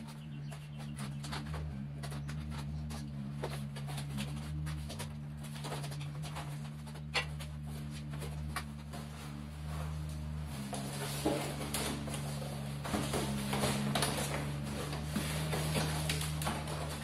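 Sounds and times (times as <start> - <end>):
cardboard scrapes and crackles: 0.0 - 17.0
low hum: 0.0 - 17.0.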